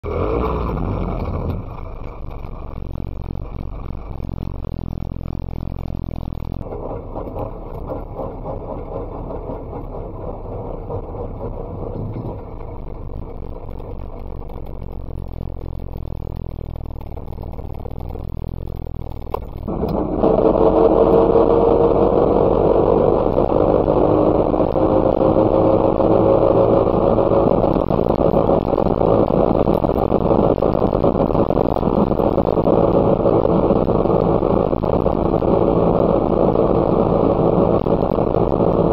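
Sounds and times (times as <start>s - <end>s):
two-stroke car engine running: 0.0s - 38.9s.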